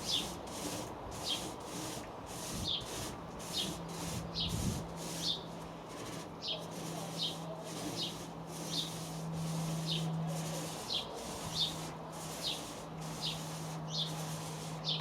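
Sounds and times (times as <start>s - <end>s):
paint roller swishing and squeaking: 0.0s - 15.0s.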